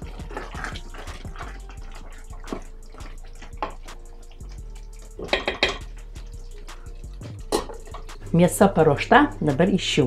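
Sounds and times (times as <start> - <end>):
spoon knocking and scraping pot: 0.0 - 8.3
sauce sloshing: 0.0 - 8.4.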